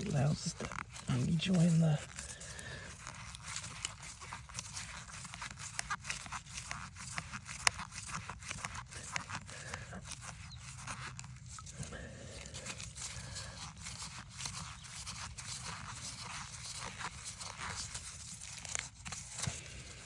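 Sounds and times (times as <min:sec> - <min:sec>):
crackling handling noise: 0:00.0 - 0:20.0.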